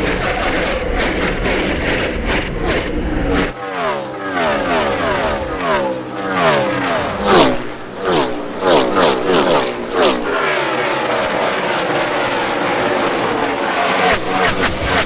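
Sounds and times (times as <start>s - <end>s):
race cars passing at full throttle: 0.0s - 15.0s.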